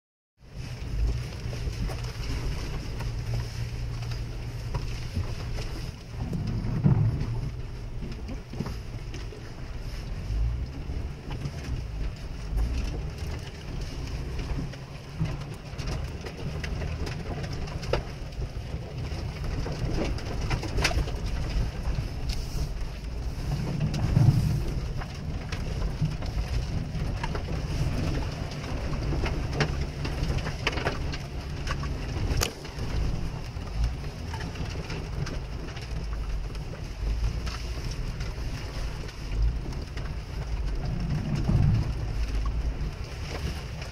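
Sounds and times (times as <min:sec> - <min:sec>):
vehicle engine rumbling: 0:00.4 - 0:43.9.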